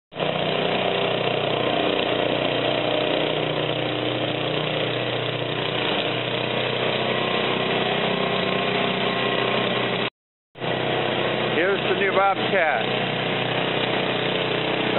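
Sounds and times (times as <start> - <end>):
snow thrower engine running: 0.1 - 14.9.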